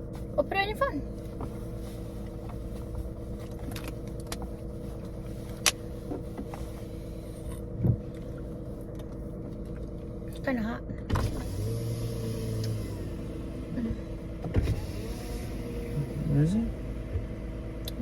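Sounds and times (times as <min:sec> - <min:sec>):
car engine humming: 0:00.0 - 0:18.0.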